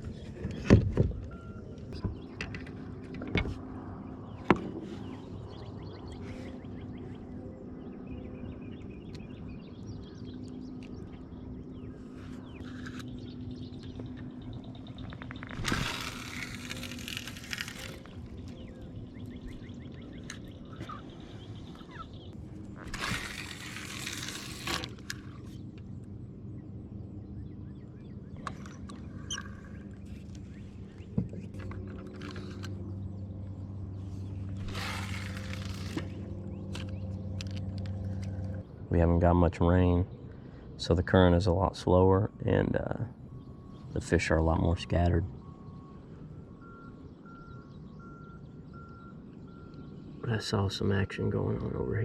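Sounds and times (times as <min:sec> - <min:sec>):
steady low hum: 0:00.0 - 0:52.0
birds chirping and singing: 0:01.9 - 0:52.0.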